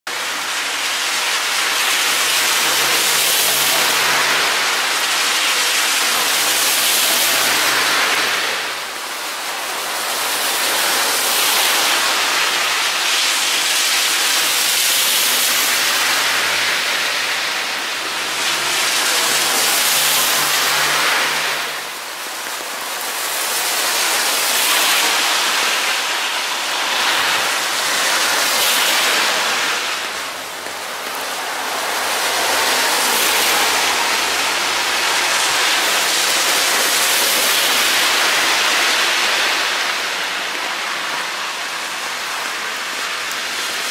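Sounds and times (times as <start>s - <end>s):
heavy rain on wet asphalt: 0.0s - 43.9s.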